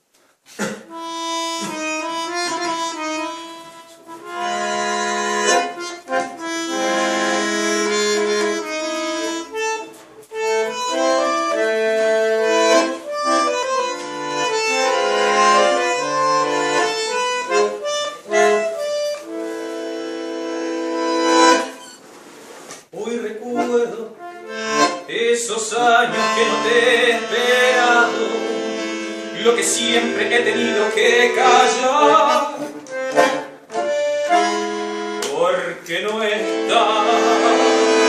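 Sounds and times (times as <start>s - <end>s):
accordion playing: 0.0s - 22.1s, 23.0s - 38.0s.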